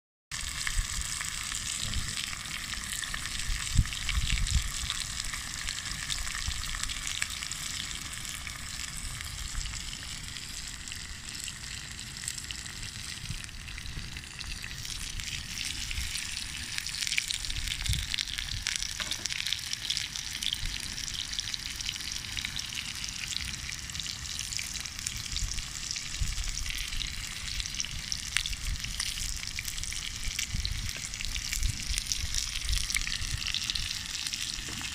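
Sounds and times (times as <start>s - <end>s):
steak sizzling on a grill: 0.3s - 34.9s.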